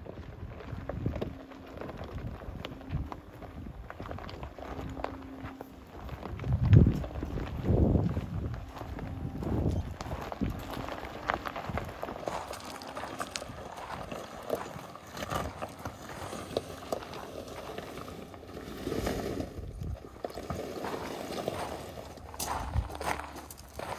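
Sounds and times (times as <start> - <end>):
footsteps on gravel: 0.0 - 23.9
tyres crunching over gravel: 0.0 - 23.9.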